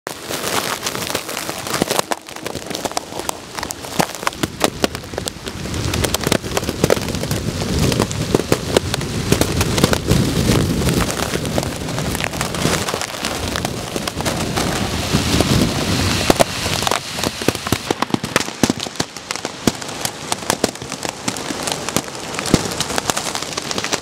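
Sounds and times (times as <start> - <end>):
heavy rain: 0.1 - 24.0
raindrops ticking: 0.2 - 14.8, 16.2 - 24.0.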